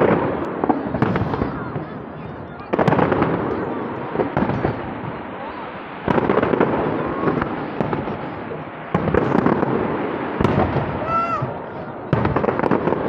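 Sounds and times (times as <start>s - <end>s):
fireworks bangs: 0.0s - 13.0s
fireworks crackle: 0.0s - 13.0s.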